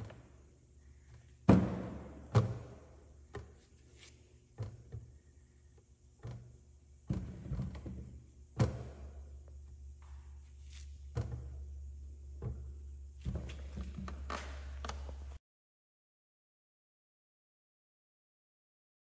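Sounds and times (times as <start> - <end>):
low steady hum: 0.0 - 15.4.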